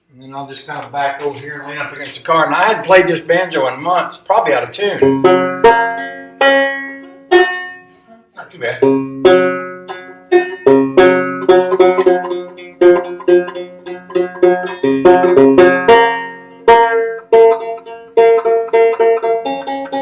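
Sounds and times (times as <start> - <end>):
banjo playing: 0.2 - 20.0.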